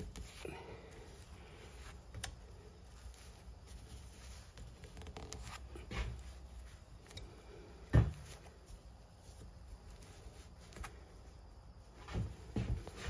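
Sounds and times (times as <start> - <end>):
rubbing and rustling of wrap: 0.0 - 13.0.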